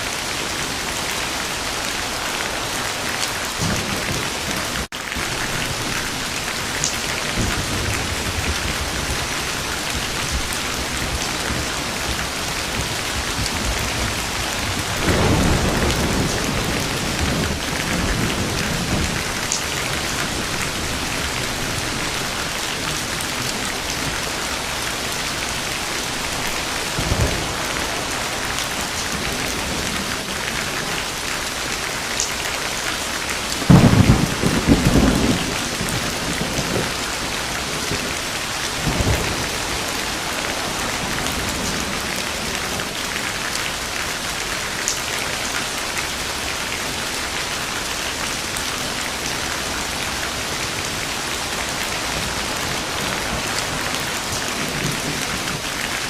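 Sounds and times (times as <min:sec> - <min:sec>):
heavy rain falling: 0:00.0 - 0:56.0
thunder rumbling: 0:00.1 - 0:44.7, 0:48.3 - 0:56.0.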